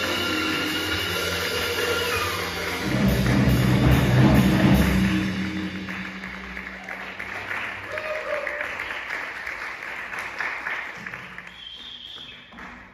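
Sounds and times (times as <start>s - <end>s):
audience applause: 1.0s - 12.9s.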